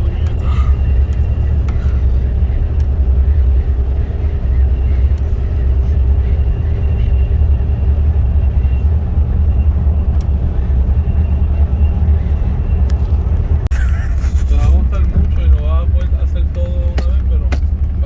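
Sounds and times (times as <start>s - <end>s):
vehicle driving low rumble: 0.0s - 18.0s.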